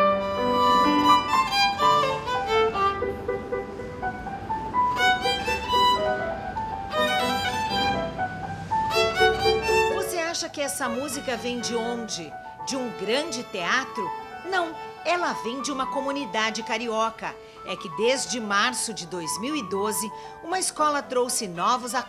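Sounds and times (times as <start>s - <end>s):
low string accompaniment: 0.0s - 20.1s
violin melody: 0.0s - 20.4s, 21.1s - 22.0s.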